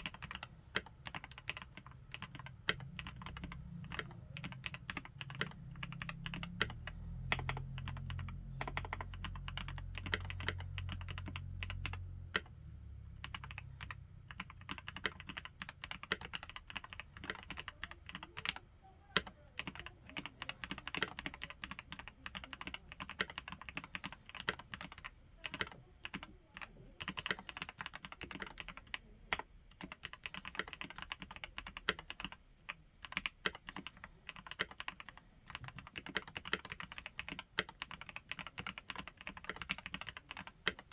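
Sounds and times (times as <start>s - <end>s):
mechanical keyboard typing: 0.0s - 12.6s, 13.2s - 40.9s.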